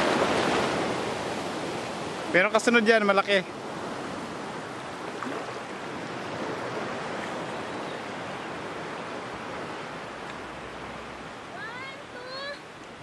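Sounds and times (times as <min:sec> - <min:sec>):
sea waves washing in: 0:00.0 - 0:13.0.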